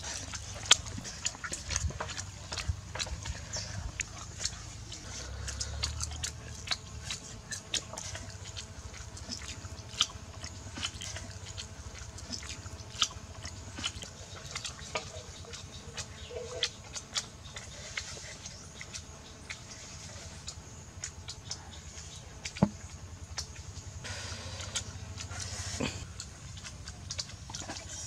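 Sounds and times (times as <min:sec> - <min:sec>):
lip smacks: 0:00.0 - 0:28.0
people chewing with wet mouth clicks: 0:00.0 - 0:28.0.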